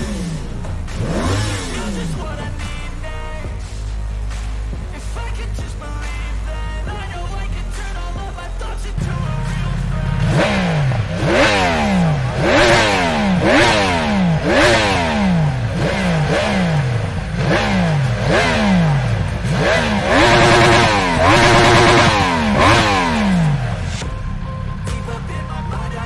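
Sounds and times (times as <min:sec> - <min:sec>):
motorcycle engine revving: 0:00.0 - 0:24.2.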